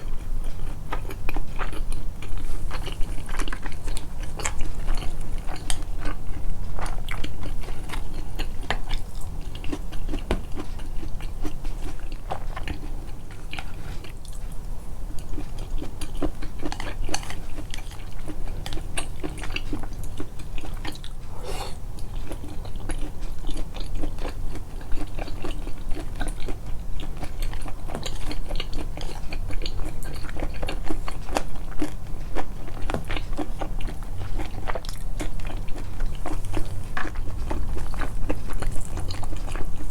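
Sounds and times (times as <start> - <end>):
person chewing and biting: 0.5 - 14.4, 15.2 - 39.9.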